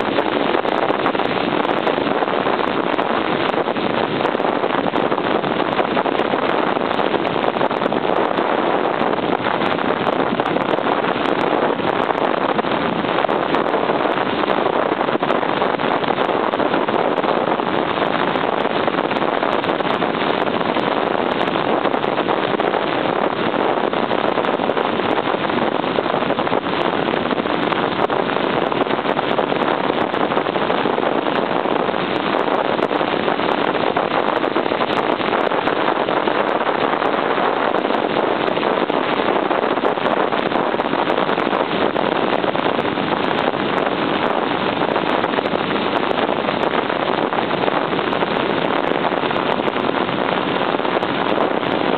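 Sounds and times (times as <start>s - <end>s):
wind over microphone: 0.0s - 51.9s.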